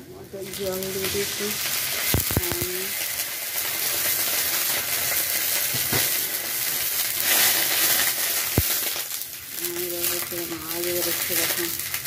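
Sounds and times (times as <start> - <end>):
food sizzling in oil: 0.1 - 12.0.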